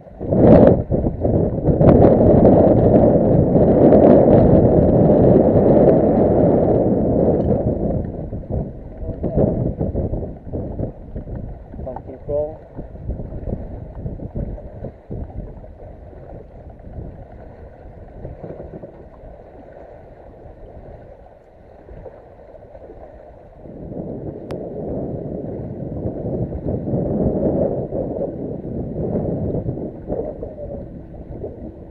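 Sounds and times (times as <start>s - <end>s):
water lapping against boat hull: 0.0s - 31.9s
wind buffeting microphone: 0.0s - 31.9s.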